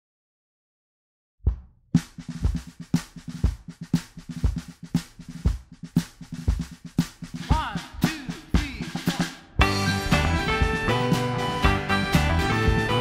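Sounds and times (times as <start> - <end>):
drum kit playing steady beat: 1.5 - 13.0.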